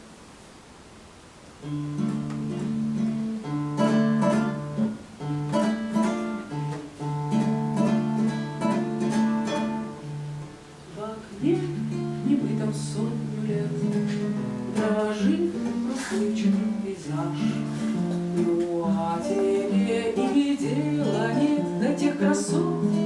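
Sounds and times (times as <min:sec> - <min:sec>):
acoustic guitar strumming: 0:01.6 - 0:23.0.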